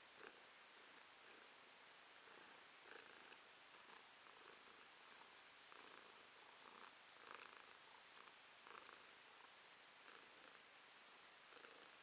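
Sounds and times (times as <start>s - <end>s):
cat purring: 0.0s - 10.7s, 11.4s - 12.0s.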